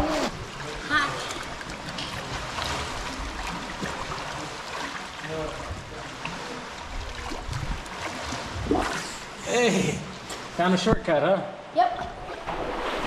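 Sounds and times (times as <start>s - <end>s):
water sloshing around waders: 0.0s - 10.6s.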